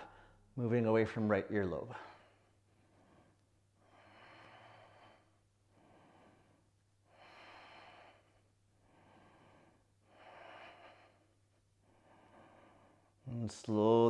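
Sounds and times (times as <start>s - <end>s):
slow breathing: 0.0s - 0.5s, 1.9s - 13.3s.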